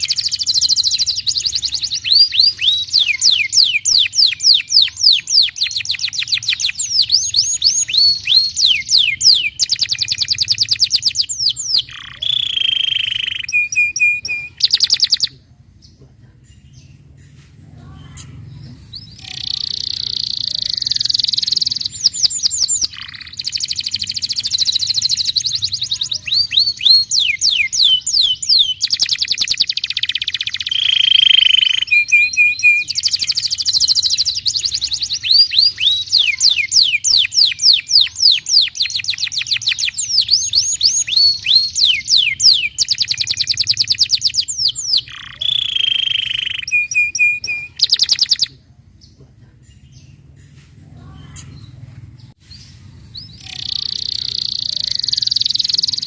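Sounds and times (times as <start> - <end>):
canary singing trills: 0.0 - 15.4, 17.8 - 50.3, 51.0 - 56.0.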